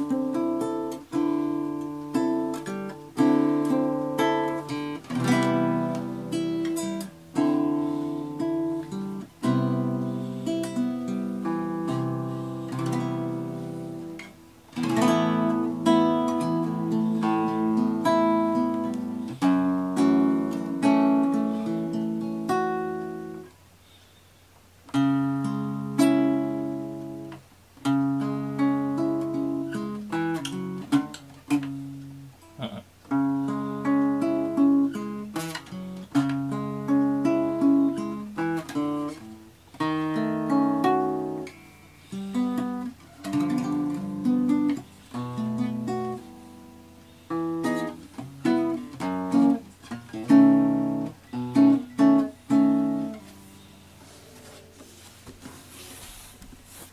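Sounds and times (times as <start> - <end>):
acoustic guitar music: 0.0 - 56.9.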